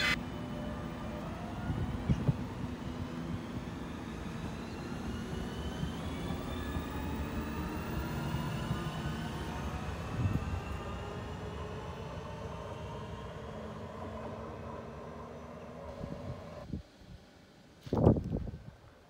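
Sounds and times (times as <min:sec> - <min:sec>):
train motor whine rising: 0:00.0 - 0:16.6
electric train rumble: 0:00.0 - 0:17.6.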